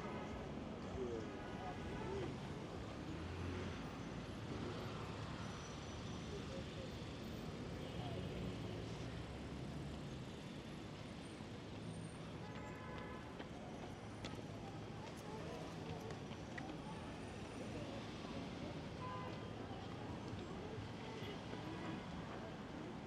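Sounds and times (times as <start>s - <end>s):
faint voices of passers-by: 0.0s - 23.0s.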